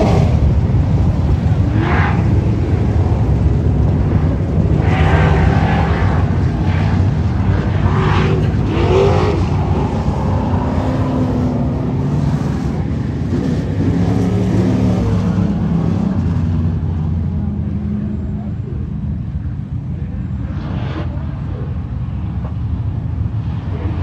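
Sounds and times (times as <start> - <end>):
race car engines droning: 0.0 - 24.0.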